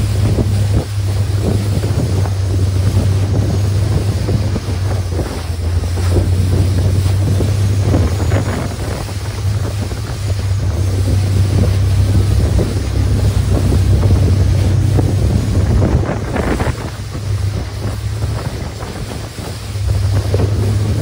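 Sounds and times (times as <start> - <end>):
boat engine humming: 0.0 - 21.0
water rushing along hull: 0.0 - 21.0
wind buffeting microphone: 0.0 - 21.0.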